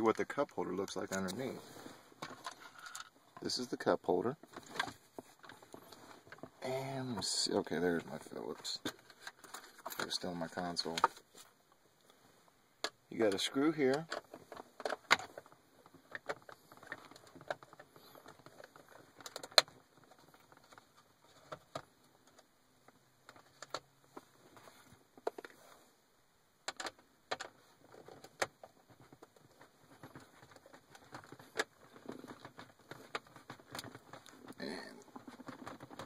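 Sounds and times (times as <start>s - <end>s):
plastic parts clicking and knocking: 2.1s - 11.3s, 12.8s - 25.6s, 26.6s - 36.0s.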